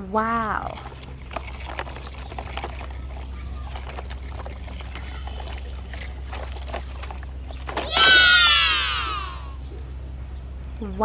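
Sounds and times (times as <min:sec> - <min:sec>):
muddy water sloshing and splashing: 0:00.0 - 0:10.0.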